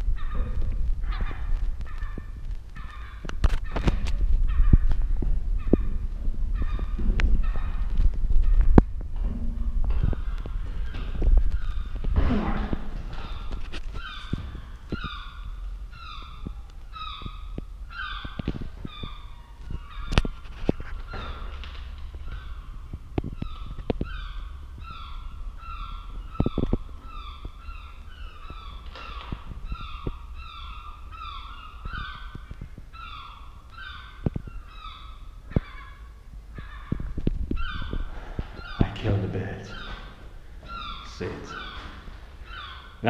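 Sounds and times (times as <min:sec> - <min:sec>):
gull calling: 0:00.0 - 0:43.0.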